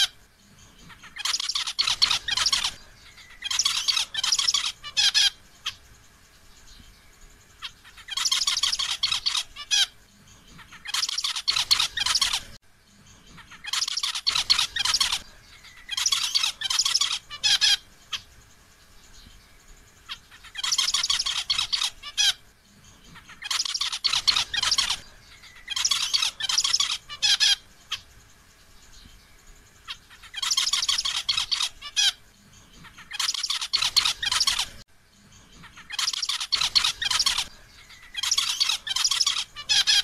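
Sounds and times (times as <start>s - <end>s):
finch calling in rapid notes: 0.0s - 5.8s, 7.5s - 12.6s, 13.3s - 18.3s, 20.0s - 28.1s, 29.8s - 34.8s, 35.5s - 40.0s.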